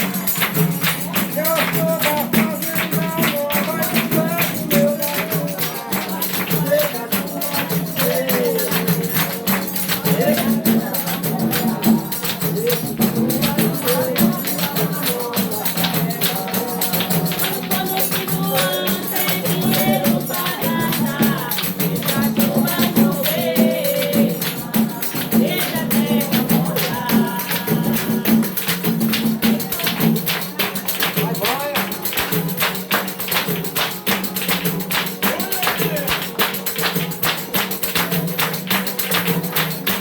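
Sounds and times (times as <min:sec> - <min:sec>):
hand percussion beat: 0:00.0 - 0:40.0
people singing: 0:00.0 - 0:40.0.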